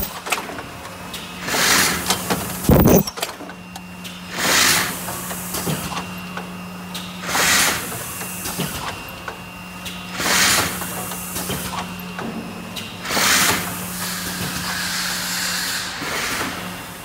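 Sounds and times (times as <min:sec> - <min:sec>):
machine humming with mechanical clicks: 0:00.0 - 0:17.0.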